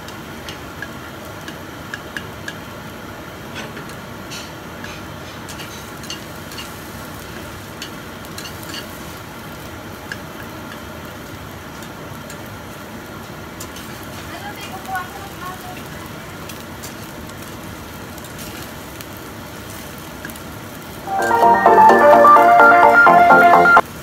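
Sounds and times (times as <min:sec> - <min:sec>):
egg sizzling in a pan: 0:00.0 - 0:21.1.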